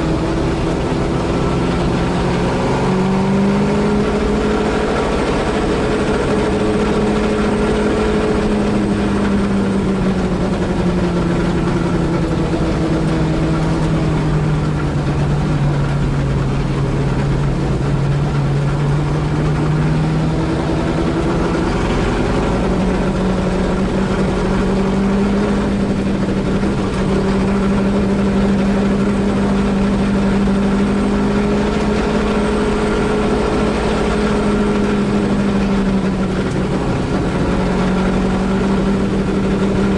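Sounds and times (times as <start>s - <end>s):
race car engine from inside: 0.0s - 39.9s.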